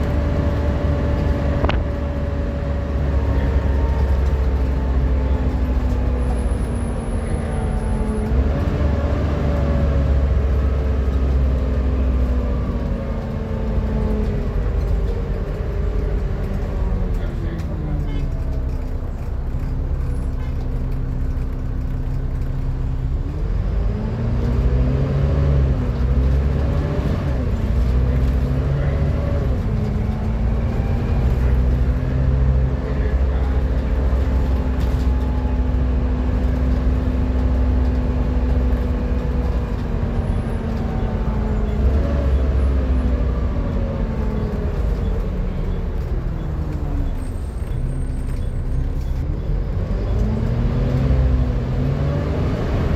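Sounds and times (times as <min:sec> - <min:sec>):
bus engine rumble: 0:00.0 - 0:52.9
loud whine from bus: 0:00.0 - 0:52.9.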